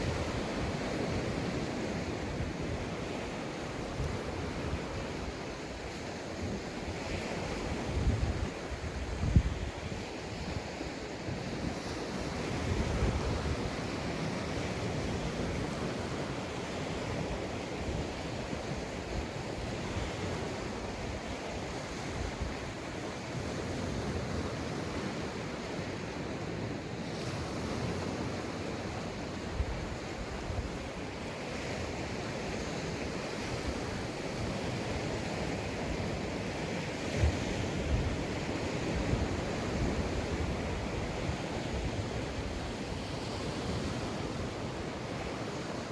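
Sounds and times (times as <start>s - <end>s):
waves breaking on a beach: 0.0s - 45.9s
wind buffeting microphone: 0.0s - 45.9s.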